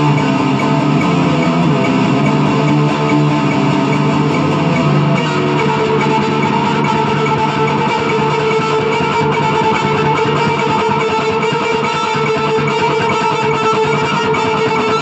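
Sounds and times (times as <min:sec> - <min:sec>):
electric guitar metal riff: 0:00.0 - 0:15.0.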